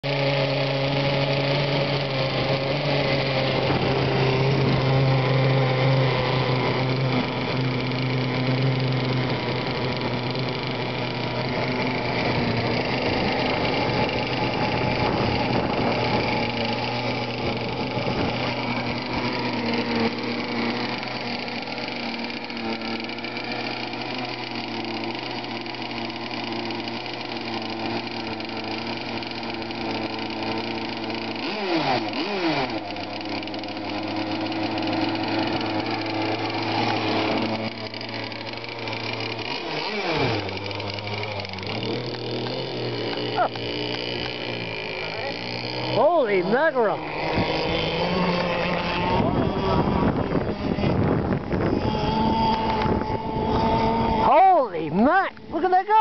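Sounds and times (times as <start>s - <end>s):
small two-stroke engine idling: 0.0s - 56.0s.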